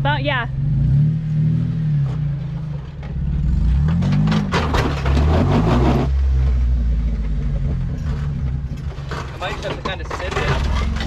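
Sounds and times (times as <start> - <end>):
engine revving under load: 0.0 - 9.3
tires scraping against rock: 0.6 - 11.0.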